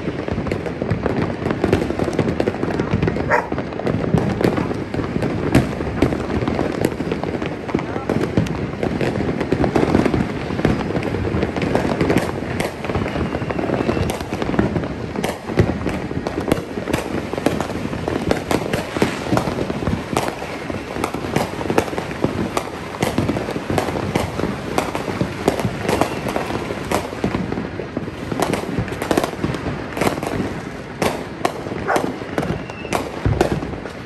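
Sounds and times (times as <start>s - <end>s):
fireworks bangs: 0.0s - 34.0s
fireworks crackling and popping: 0.0s - 34.0s.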